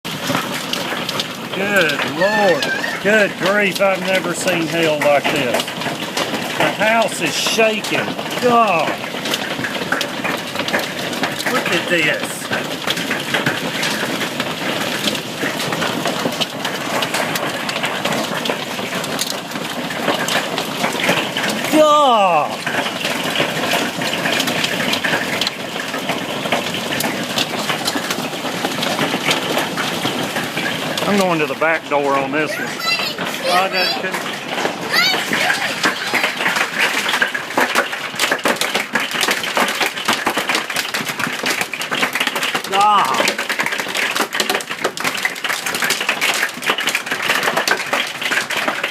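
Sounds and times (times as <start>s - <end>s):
hailstones clattering: 0.1s - 48.9s.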